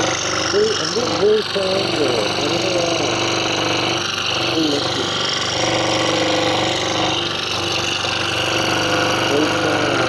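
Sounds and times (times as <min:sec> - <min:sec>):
scroll saw cutting wood: 0:00.0 - 0:10.0.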